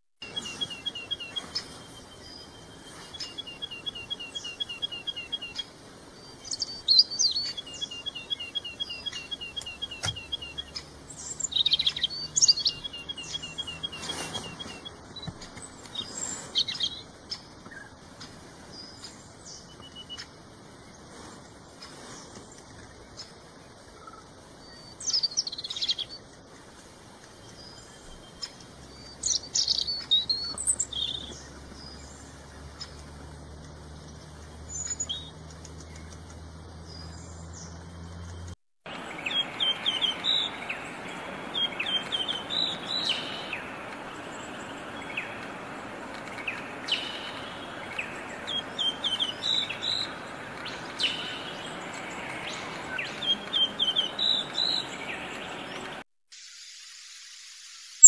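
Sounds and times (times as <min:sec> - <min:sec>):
songbird chirping: 0:00.2 - 0:58.0.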